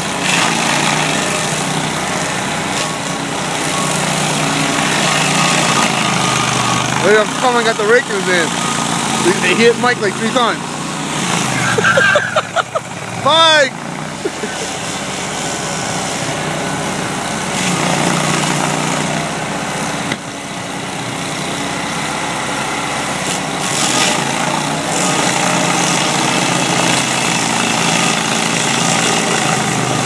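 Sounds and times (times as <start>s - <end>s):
stump grinder engine running: 0.0s - 30.0s.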